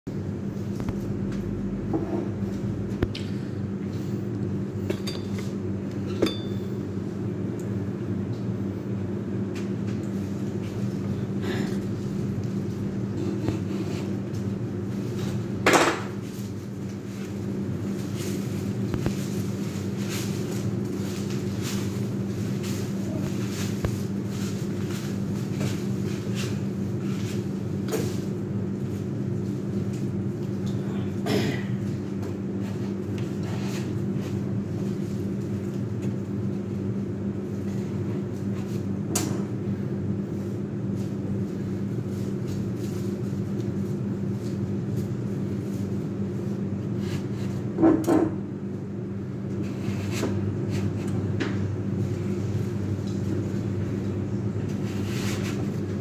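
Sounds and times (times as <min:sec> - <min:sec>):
steady low hum: 0:00.1 - 0:56.0.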